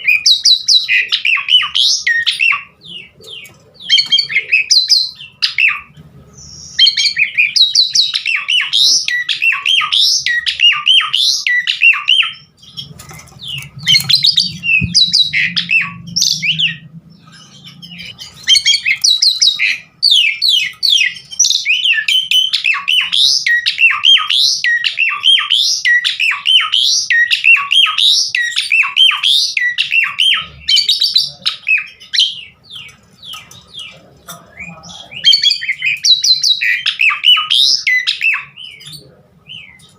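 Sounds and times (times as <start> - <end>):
starling singing whistles and chatter: 0.0 - 39.9.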